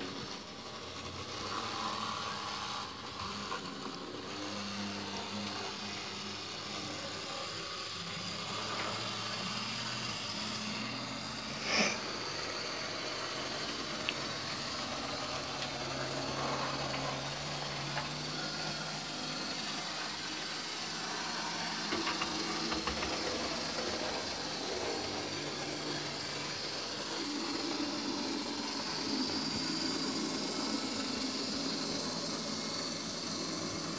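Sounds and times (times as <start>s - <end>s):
wheels rolling on track: 0.0s - 11.4s, 12.0s - 33.9s
model train motor humming: 0.0s - 33.9s.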